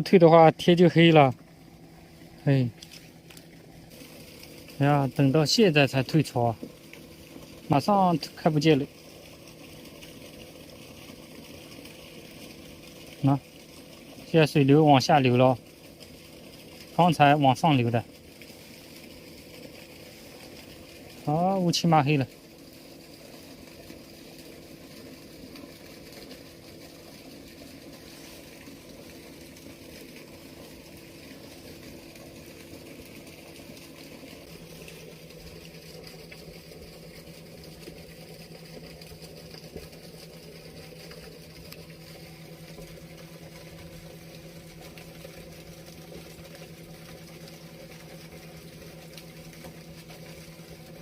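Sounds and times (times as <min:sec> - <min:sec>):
low steady hum: 0:00.0 - 0:51.0
water running through sluice gate: 0:00.0 - 0:51.0.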